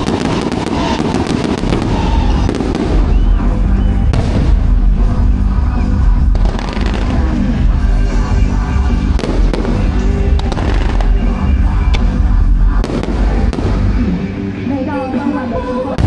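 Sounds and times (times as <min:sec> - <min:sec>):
fireworks bangs and crackling: 0:00.0 - 0:14.5
loud music with heavy bass: 0:00.0 - 0:16.0.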